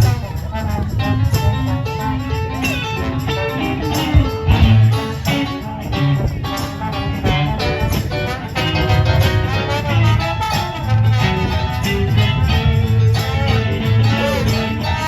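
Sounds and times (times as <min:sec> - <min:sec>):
guitar: 0:00.0 - 0:15.0
live band playing instrumental: 0:00.0 - 0:15.0.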